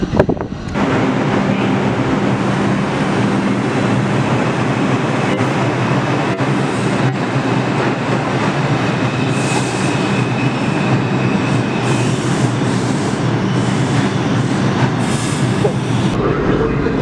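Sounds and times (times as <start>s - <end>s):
subway train running: 0.0s - 17.0s.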